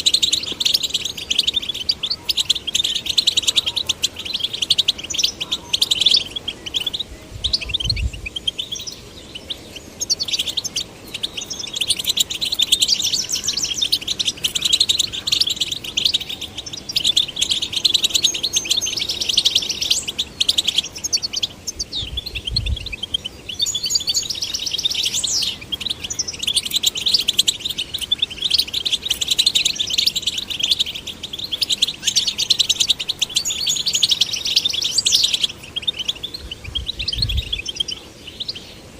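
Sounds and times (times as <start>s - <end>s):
goldfinch twittering song: 0.0s - 38.9s.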